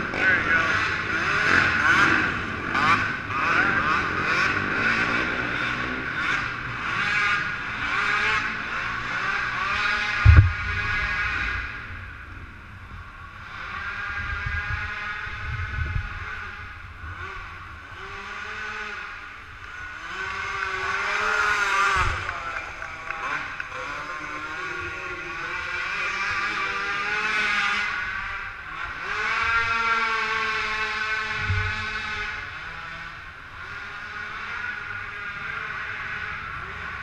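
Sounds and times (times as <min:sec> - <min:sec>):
quad engines revving: 0:00.0 - 0:37.0.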